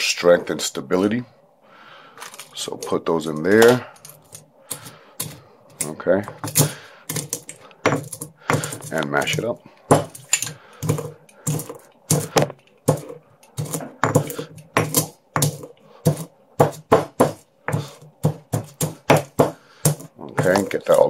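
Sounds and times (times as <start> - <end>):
stone pestle pounding spices: 3.5 - 21.0.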